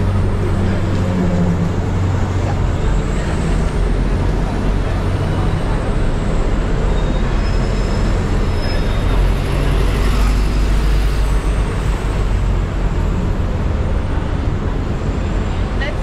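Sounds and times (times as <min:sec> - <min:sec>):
buses and cars passing: 0:00.0 - 0:16.0.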